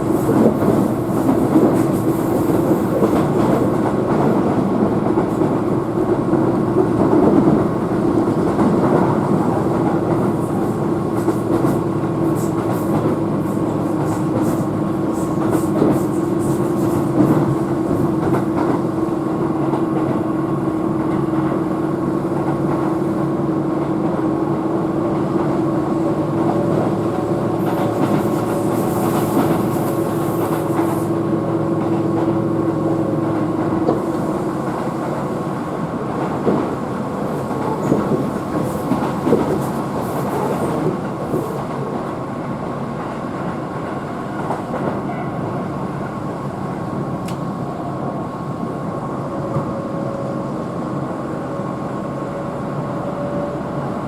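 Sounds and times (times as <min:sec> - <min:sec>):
electric train running hum: 0:00.0 - 0:54.0.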